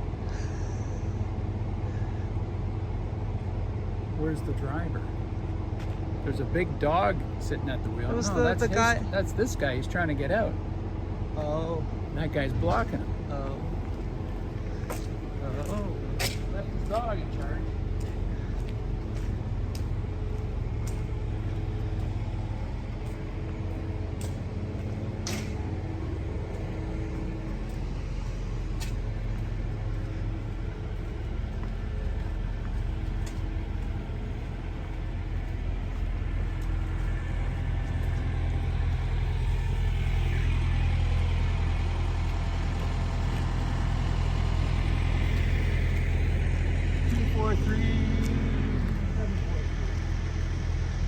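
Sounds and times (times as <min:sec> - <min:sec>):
diesel truck engine rumbling: 0:00.0 - 0:51.0.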